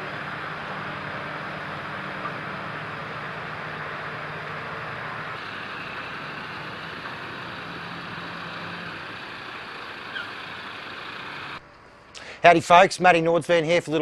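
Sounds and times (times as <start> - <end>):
crane engine running: 0.0 - 12.1.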